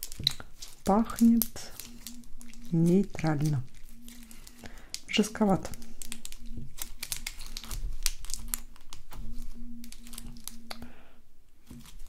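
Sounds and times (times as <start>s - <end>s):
slime clicking and crackling: 0.0s - 10.8s.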